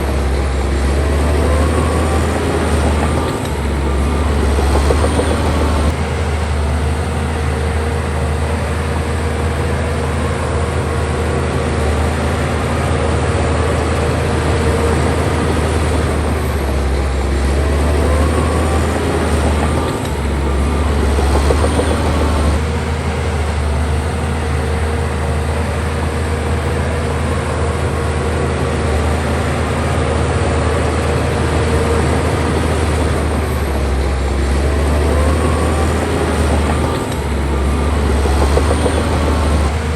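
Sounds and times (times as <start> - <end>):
bulldozer engine droning: 0.0 - 39.9.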